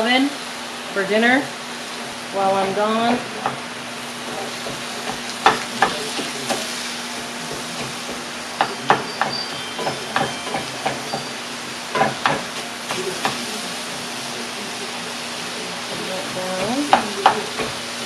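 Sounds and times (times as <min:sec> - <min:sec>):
sausage and onion sizzling: 0:00.0 - 0:18.0.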